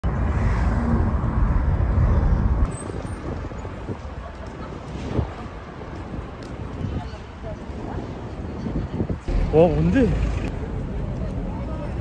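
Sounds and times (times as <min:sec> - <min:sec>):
heavy low traffic rumble: 0:00.0 - 0:12.0.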